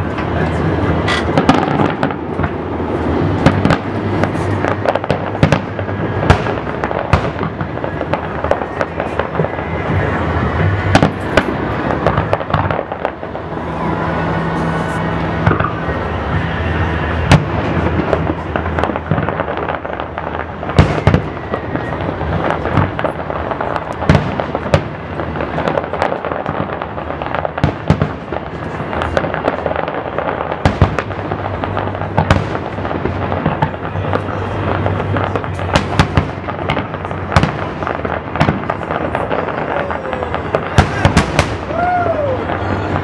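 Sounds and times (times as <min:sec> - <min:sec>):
fireworks bursting with sharp bangs: 0:00.0 - 0:43.0
fireworks crackling: 0:00.0 - 0:43.0.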